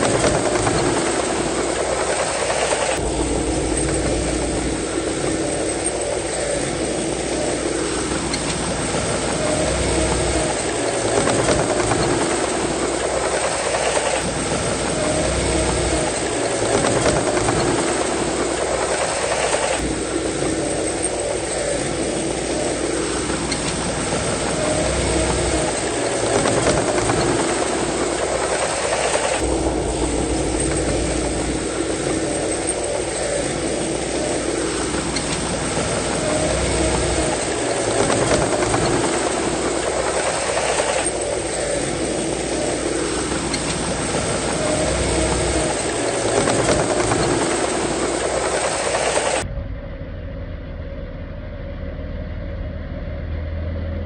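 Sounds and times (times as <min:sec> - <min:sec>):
bulldozer engine and tracks: 0:00.0 - 0:49.9.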